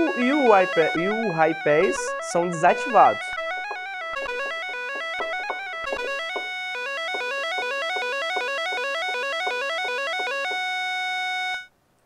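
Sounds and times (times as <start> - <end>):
synthesizer rapid stepping notes: 0.0 - 11.0.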